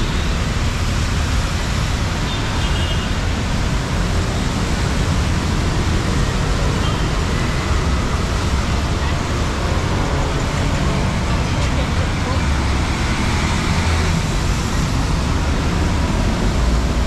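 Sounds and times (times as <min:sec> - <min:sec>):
low rumble of engines: 0:00.0 - 0:17.0
tyres hissing on wet road: 0:00.0 - 0:17.0.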